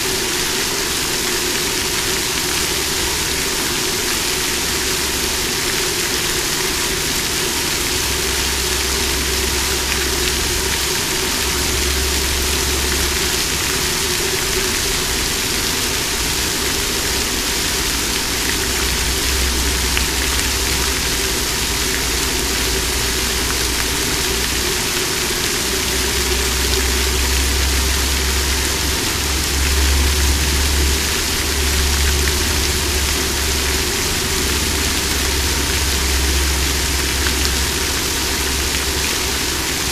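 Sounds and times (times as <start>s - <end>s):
water fountain splashing: 0.0s - 39.9s.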